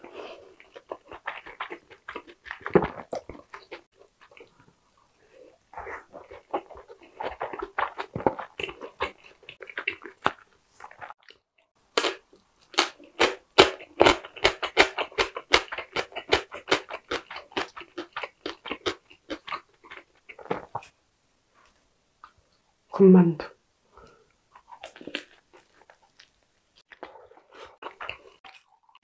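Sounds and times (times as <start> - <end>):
person chewing with mouth smacks: 0.0 - 11.4, 12.0 - 21.0, 24.1 - 29.0.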